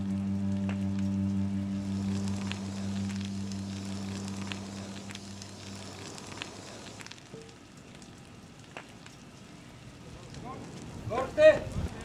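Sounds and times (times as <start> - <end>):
low steady hum: 0.0 - 11.1
fire crackling: 0.0 - 12.0
large fire rushing: 1.8 - 12.0.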